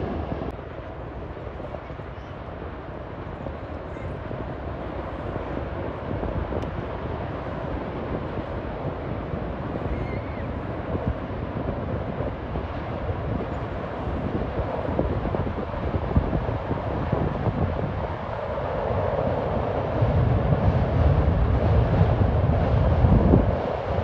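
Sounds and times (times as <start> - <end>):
train rumbling across steel bridge: 0.0 - 24.0.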